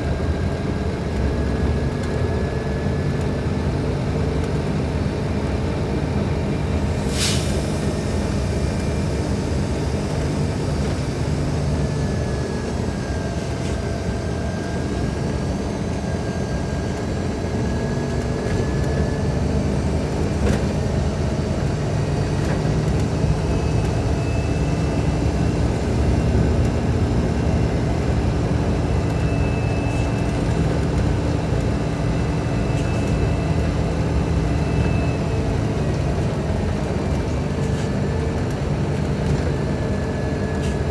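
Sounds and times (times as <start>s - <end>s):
bus engine droning: 0.0s - 40.9s.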